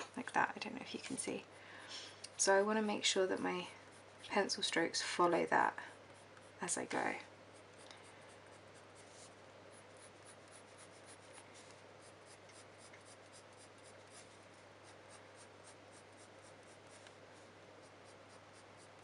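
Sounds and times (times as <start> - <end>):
pencil scratching on paper: 0.4 - 17.2, 17.8 - 19.0.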